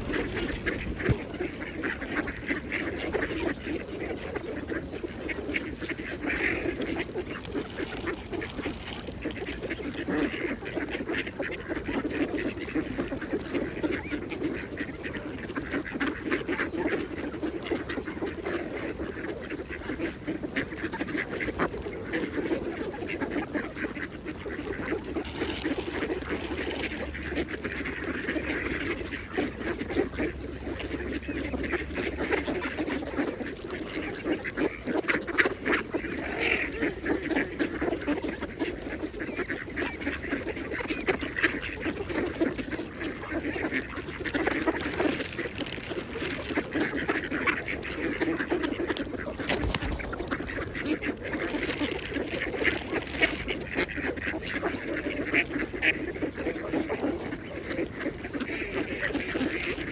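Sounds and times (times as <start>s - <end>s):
ducks dabbling in water: 0.0s - 59.9s
ducks quacking: 0.0s - 59.9s.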